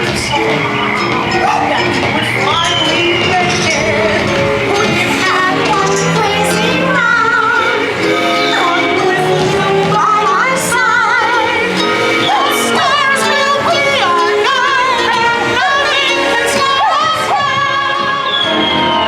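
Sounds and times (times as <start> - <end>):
voices singing with vibrato: 0.0 - 19.0.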